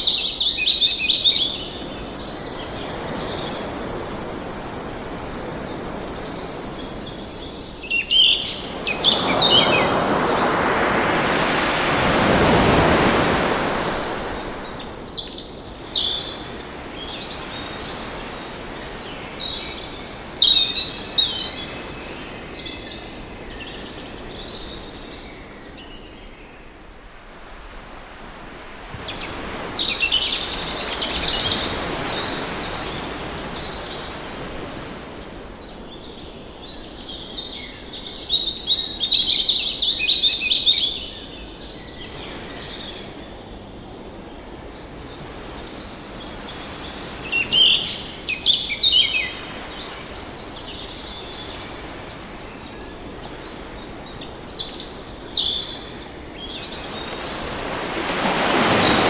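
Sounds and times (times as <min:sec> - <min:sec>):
ocean waves: 0:00.0 - 0:25.8, 0:26.6 - 0:59.0.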